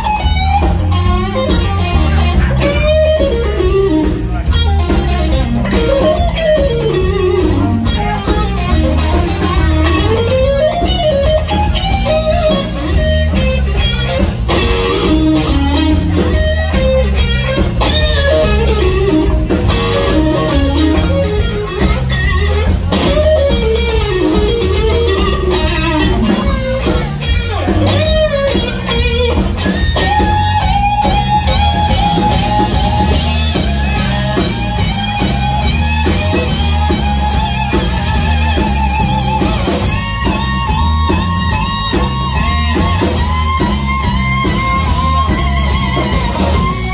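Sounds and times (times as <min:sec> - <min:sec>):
electric guitar solo: 0:00.0 - 0:46.9
rock band playing: 0:00.0 - 0:46.9.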